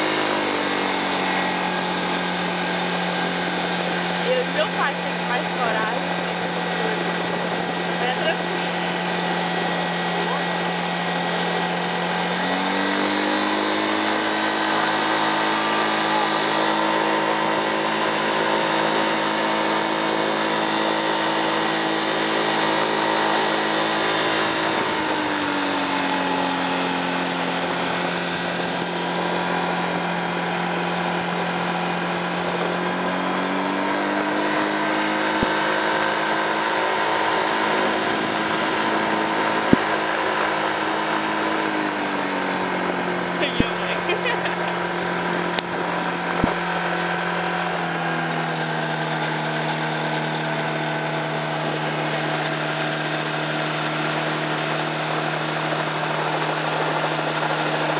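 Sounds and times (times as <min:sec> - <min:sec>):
light aircraft engine and propeller: 0:00.0 - 0:57.9.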